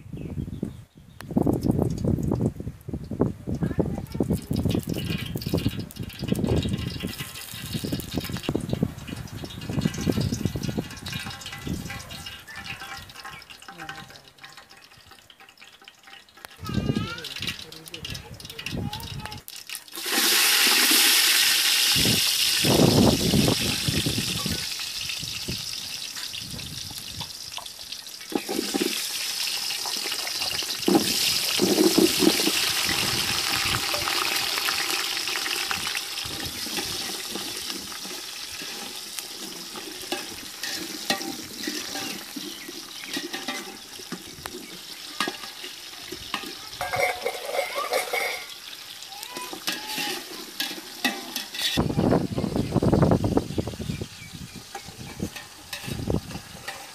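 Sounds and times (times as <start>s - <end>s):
food sizzling in hot oil: 4.0s - 56.9s.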